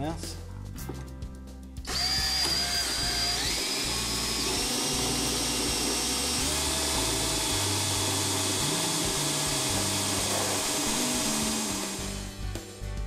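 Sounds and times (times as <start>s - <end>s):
cordless drill whining: 1.9s - 12.4s.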